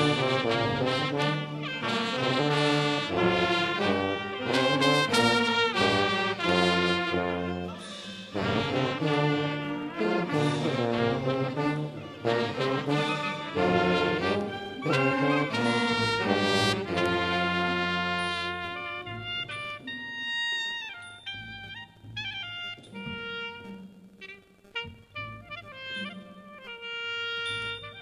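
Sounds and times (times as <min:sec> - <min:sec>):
wind band playing: 0:00.0 - 0:28.0.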